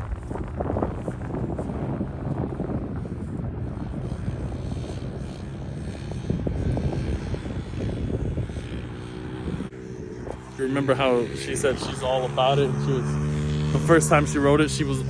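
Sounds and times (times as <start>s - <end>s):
pit bike engine at low revs: 0.0s - 15.0s.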